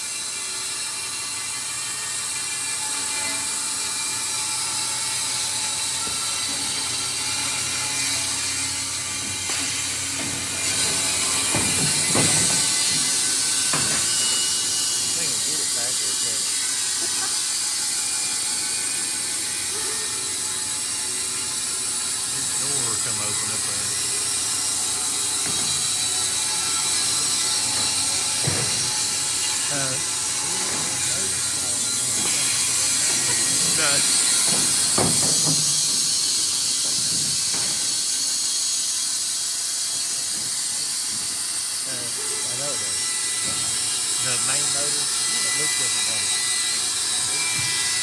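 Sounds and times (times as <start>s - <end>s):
band sawmill blade sawing log: 1.6s - 48.0s.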